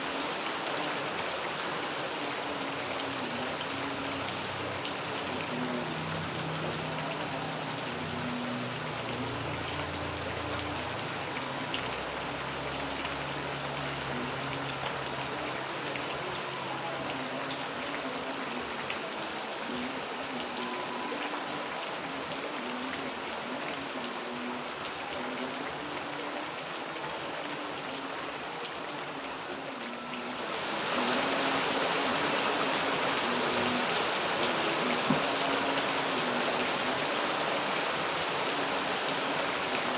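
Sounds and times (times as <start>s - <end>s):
running water: 0.0s - 39.9s
steady rain falling: 0.0s - 39.9s.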